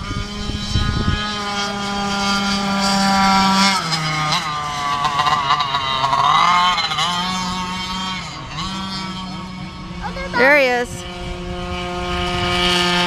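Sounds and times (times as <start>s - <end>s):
kart engines revving: 0.0s - 13.0s.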